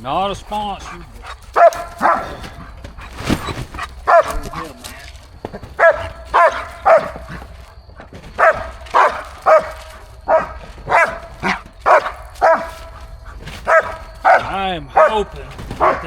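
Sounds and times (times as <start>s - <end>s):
dog barking: 0.6s - 7.7s, 8.3s - 16.0s.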